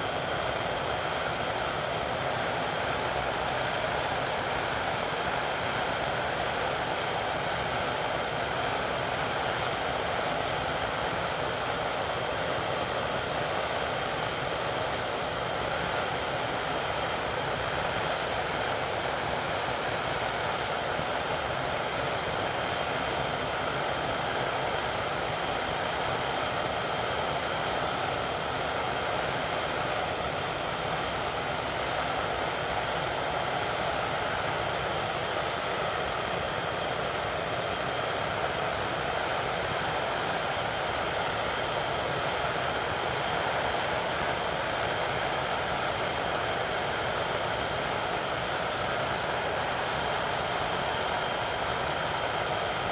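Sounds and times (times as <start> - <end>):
jet engines running: 0.0 - 52.9.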